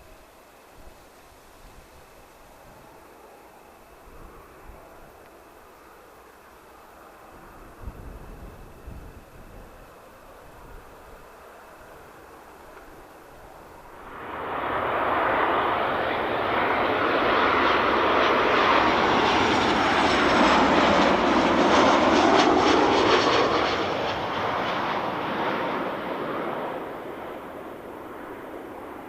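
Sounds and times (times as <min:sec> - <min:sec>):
airliner engines passing: 0:02.0 - 0:29.0.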